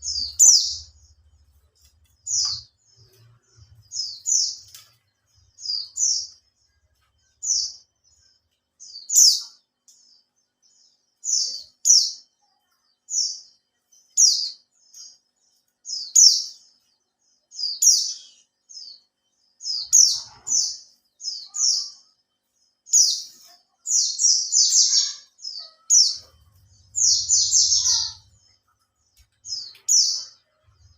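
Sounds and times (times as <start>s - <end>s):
songbird chirping: 0.0s - 30.9s.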